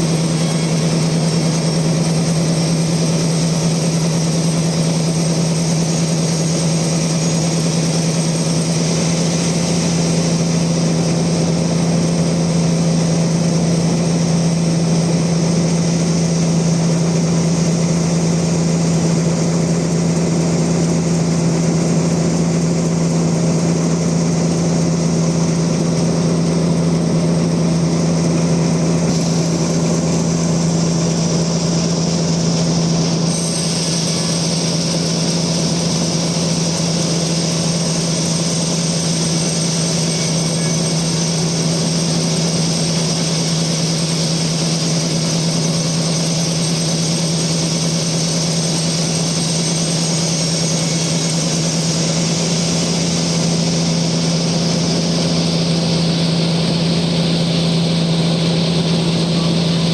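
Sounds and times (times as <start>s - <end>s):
saw blade cutting log: 0.0s - 14.5s, 24.5s - 59.9s
sawmill motor hum: 0.0s - 59.9s.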